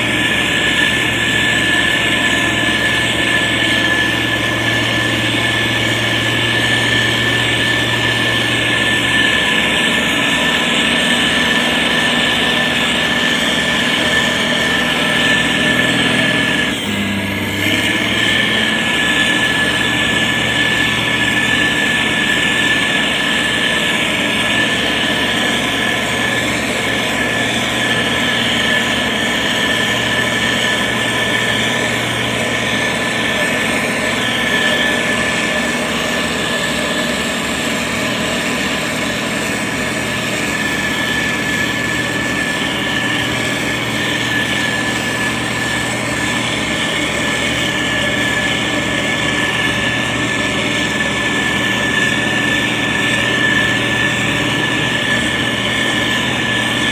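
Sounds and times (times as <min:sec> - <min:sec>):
grader diesel engine running: 0:00.0 - 0:56.9
high whine: 0:00.0 - 0:56.9.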